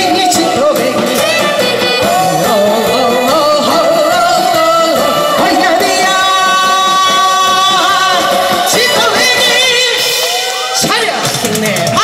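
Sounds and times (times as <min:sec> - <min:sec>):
woman singing into a microphone: 0:00.0 - 0:10.4
amplified backing music: 0:00.0 - 0:12.0.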